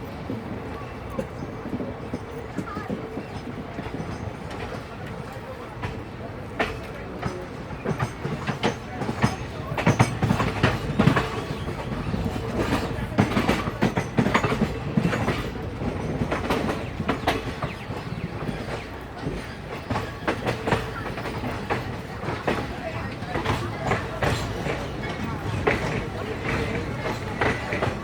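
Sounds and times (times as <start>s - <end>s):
train rolling rumble: 0.0s - 28.0s
train wheels clattering: 0.0s - 28.0s.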